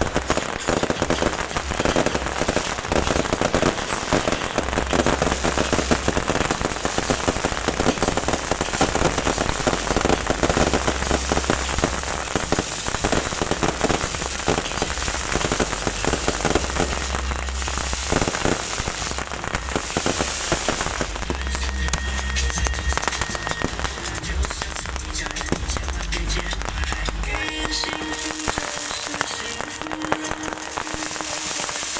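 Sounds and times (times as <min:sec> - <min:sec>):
fireworks crackling: 0:00.0 - 0:31.9.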